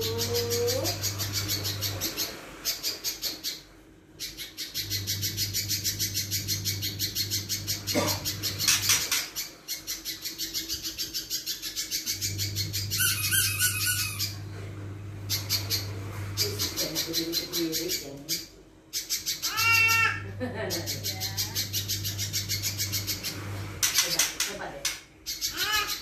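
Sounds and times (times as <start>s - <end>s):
bird singing rapid harsh chatter: 0.0s - 14.4s, 15.3s - 26.0s.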